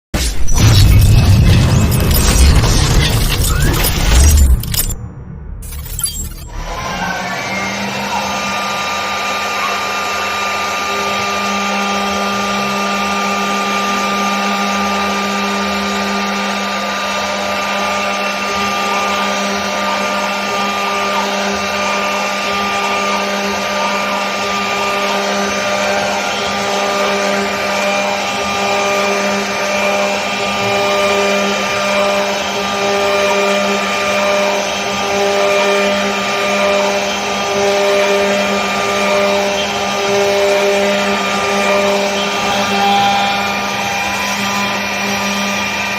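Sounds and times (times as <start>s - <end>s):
cutter rushing through wood: 0.2s - 5.0s, 5.6s - 45.9s
router spindle whine: 5.6s - 45.9s.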